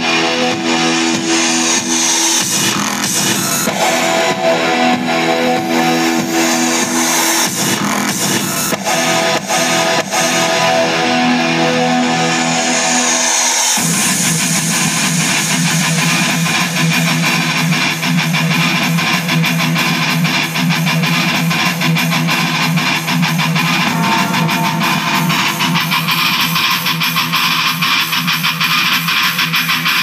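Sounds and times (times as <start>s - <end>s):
guitar music with fast strumming: 0.0s - 30.0s.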